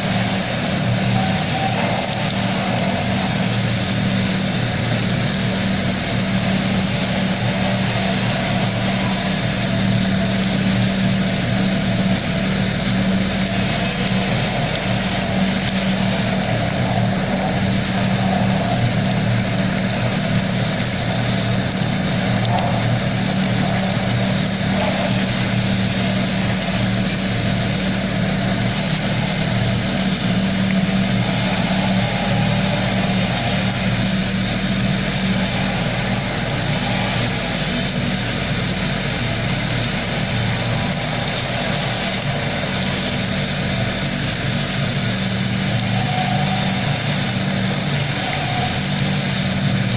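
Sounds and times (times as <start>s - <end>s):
motor hum: 0.0s - 49.9s.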